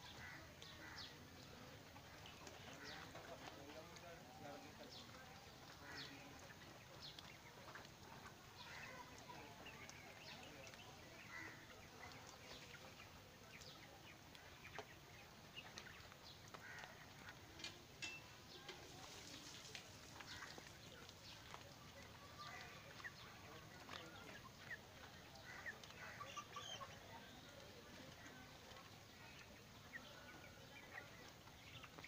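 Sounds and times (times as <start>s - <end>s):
chickens chirping and clucking: 1.4s - 32.0s.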